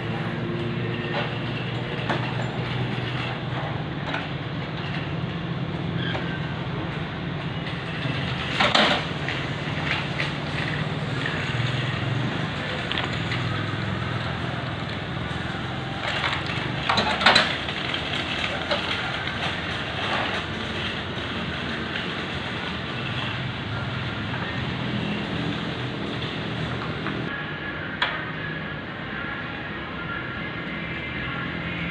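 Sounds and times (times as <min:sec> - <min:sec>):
road-marking machine humming and hissing: 0:00.0 - 0:31.9.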